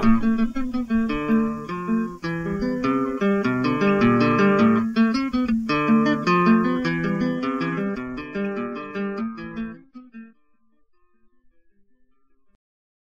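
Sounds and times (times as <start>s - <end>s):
acoustic guitar plucking: 0.0s - 12.6s.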